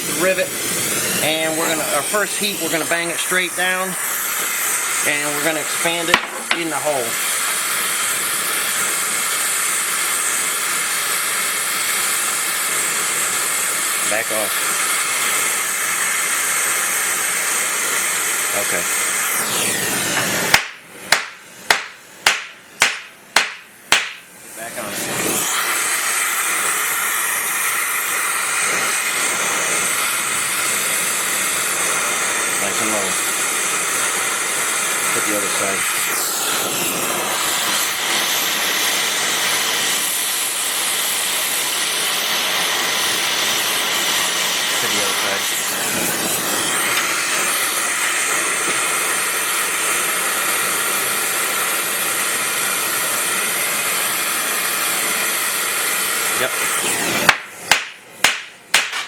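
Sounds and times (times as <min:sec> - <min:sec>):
gas torch hissing: 0:00.0 - 0:59.0.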